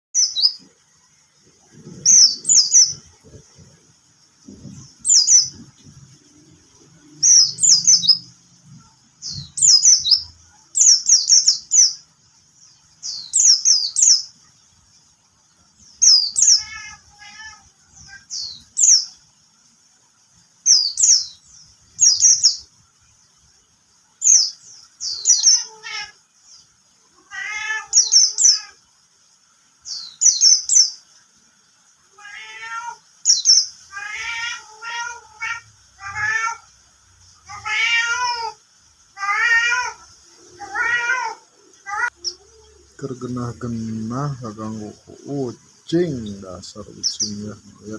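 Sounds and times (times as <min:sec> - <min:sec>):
songbird singing: 0:00.1 - 0:47.9.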